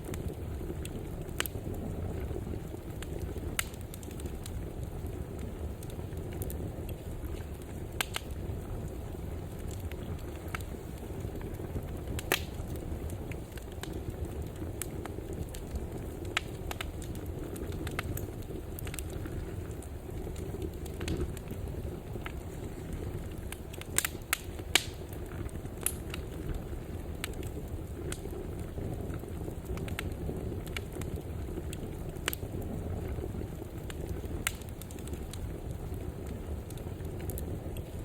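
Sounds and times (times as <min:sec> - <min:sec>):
fire crackles and pops: 0:00.0 - 0:38.0
fire flames rumbling: 0:00.0 - 0:38.0.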